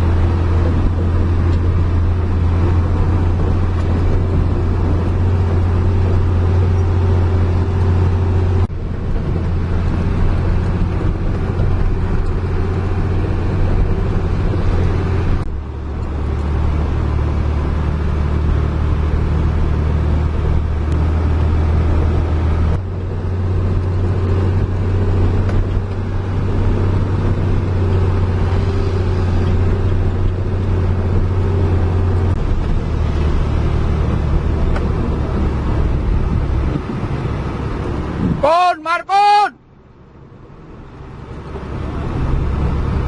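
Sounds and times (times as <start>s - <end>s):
heavy diesel engine droning: 0.0s - 43.0s.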